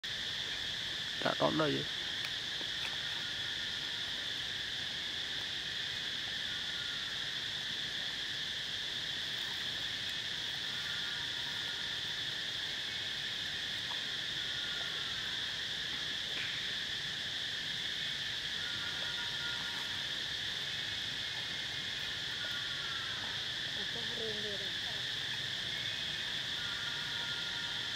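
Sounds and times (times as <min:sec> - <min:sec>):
insects buzzing drone: 0:00.0 - 0:27.9.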